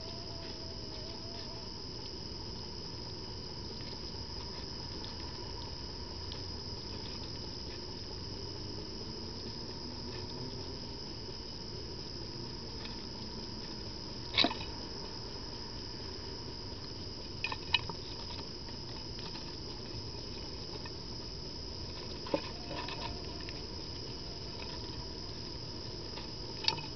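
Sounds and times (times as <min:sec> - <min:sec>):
rats clicking and gnawing: 0:00.0 - 0:26.9
steady high hiss: 0:00.0 - 0:26.9.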